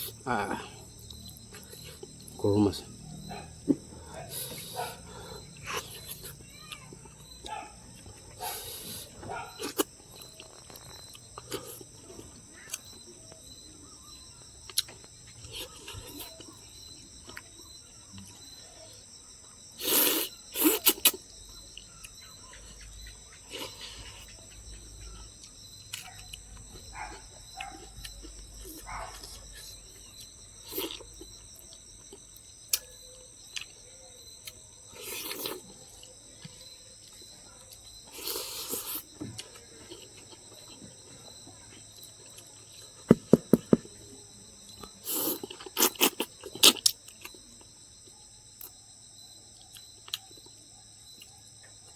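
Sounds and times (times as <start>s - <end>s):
person chewing food: 0.0s - 2.4s, 3.0s - 18.6s, 19.8s - 48.8s, 49.6s - 51.9s
crickets chirring: 0.0s - 51.9s.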